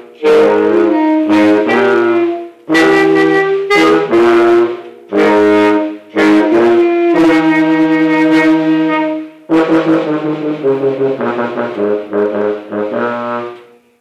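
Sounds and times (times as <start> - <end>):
alto saxophone: 0.0 - 14.0
low brass horn: 0.0 - 14.0.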